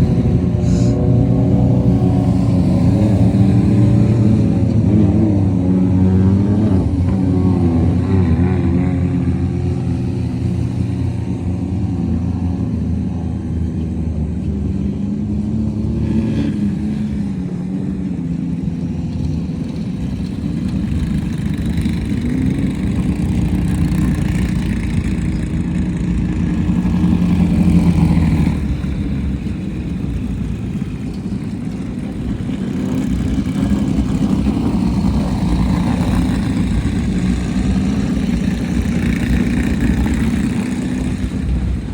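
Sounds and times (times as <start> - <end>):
race vehicle engines revving: 0.0 - 41.9.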